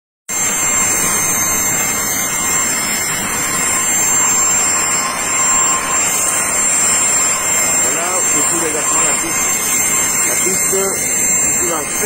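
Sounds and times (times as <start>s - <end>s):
jet turbine running: 0.3s - 12.0s.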